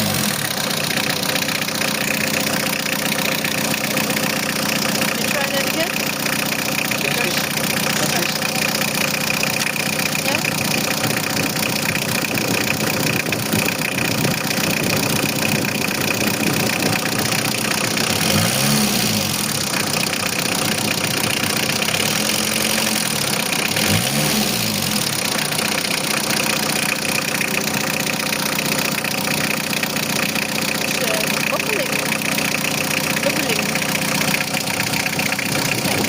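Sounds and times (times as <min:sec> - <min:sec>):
van engine idling and revving: 0:00.0 - 0:36.0.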